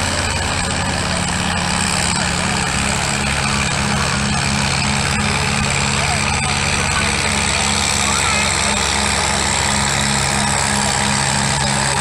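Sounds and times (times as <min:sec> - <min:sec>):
tractor engine under heavy load: 0:00.0 - 0:12.0.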